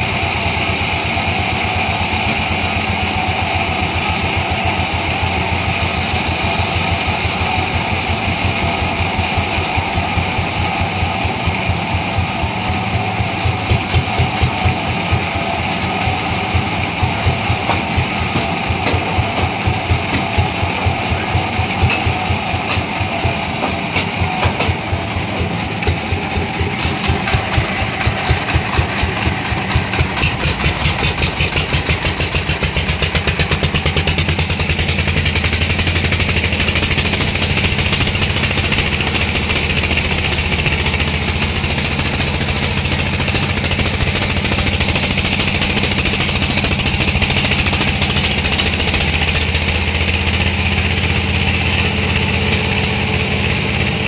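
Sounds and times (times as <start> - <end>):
engine speeding up: 0.0 - 54.0.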